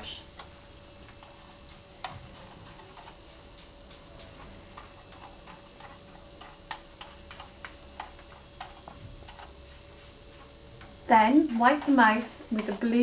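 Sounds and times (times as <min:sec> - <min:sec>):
faint steady hum: 0:00.0 - 0:13.0
brush clicking on plastic mouse: 0:01.2 - 0:13.0.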